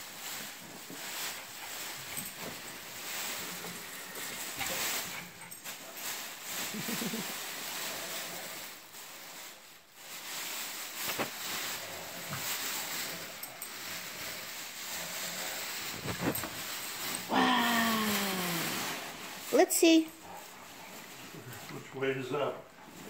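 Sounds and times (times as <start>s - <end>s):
plastic bag rustling: 0.0s - 23.0s.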